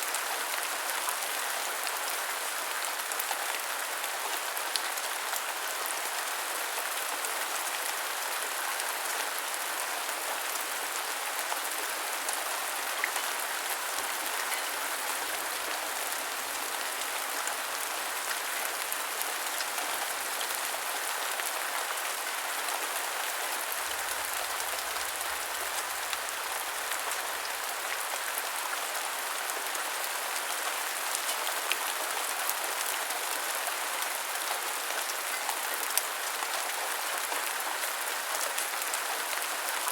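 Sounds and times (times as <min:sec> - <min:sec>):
heavy rain falling: 0:00.2 - 0:39.9.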